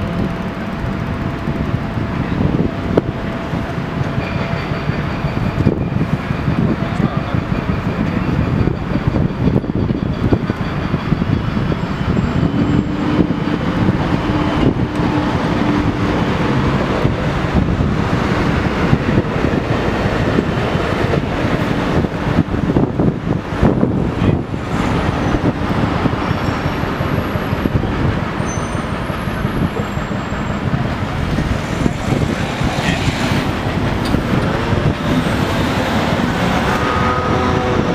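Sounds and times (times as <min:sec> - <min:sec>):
bus passing: 0:00.0 - 0:37.9
city road traffic: 0:00.0 - 0:37.9.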